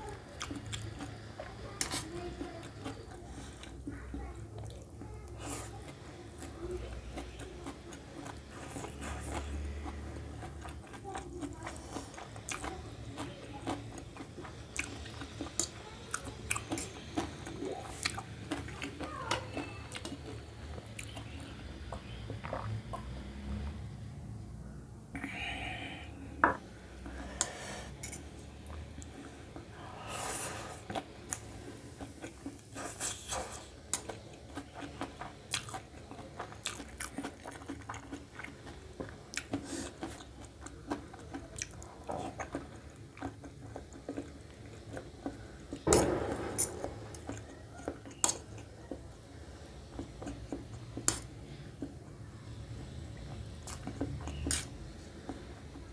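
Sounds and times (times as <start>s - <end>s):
person chewing food: 0.0s - 23.5s, 25.2s - 55.9s.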